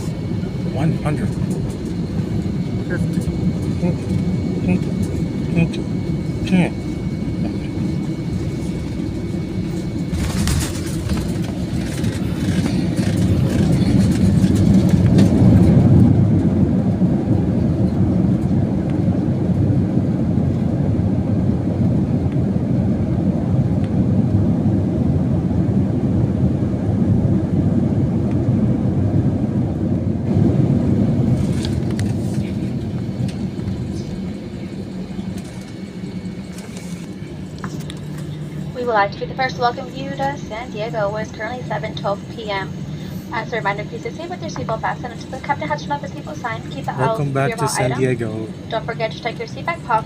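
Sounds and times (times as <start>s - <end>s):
jet engines and wheels rumbling: 0.0s - 50.0s.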